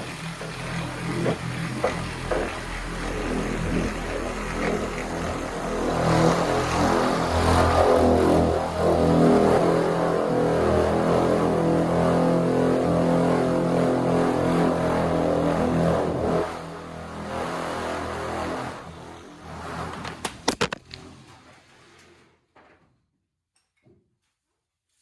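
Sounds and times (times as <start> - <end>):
electric polisher motor humming: 0.0 - 20.5.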